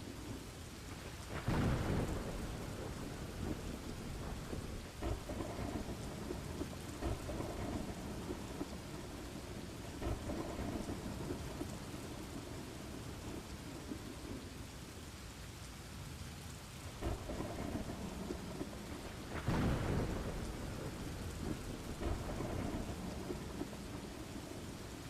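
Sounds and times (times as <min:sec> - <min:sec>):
steady rain: 0:00.0 - 0:25.0
thunder rumbling: 0:00.2 - 0:14.6, 0:17.0 - 0:25.0.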